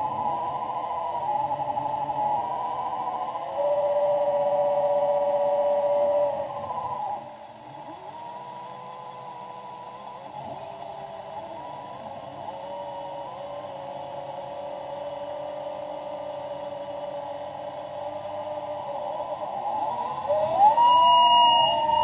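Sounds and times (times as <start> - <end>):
thrusters whining: 0.0 - 22.0.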